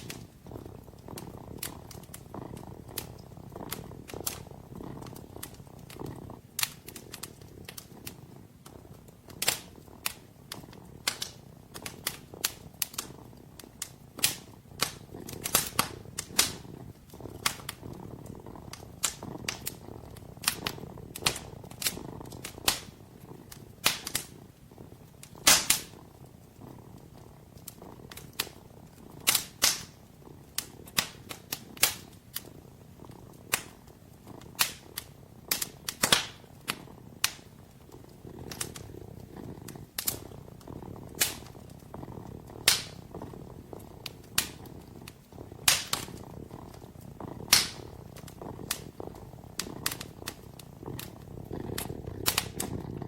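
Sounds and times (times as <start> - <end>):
fire crackling and popping: 0.0 - 53.0
kitten purring: 0.0 - 53.0.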